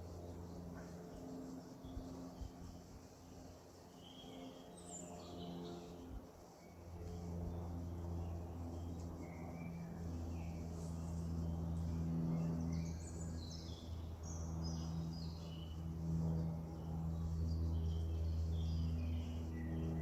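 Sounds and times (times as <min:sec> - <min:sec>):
steady low hum: 0:00.0 - 0:20.0
songbirds singing: 0:00.1 - 0:20.0.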